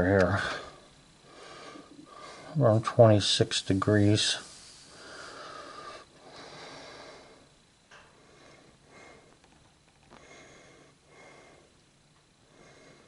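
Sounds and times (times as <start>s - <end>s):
soft breaths: 0.4s - 2.6s, 4.3s - 13.0s.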